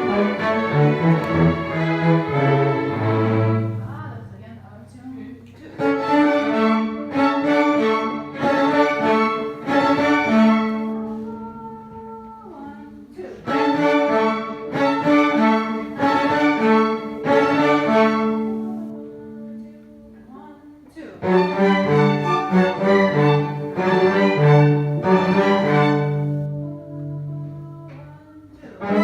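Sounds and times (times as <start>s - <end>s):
string ensemble playing chords: 0.0s - 20.4s, 21.1s - 29.0s.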